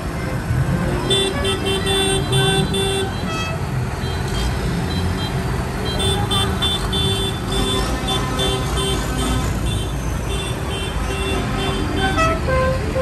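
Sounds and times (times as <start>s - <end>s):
tractor diesel engines rumbling: 0.0s - 13.0s.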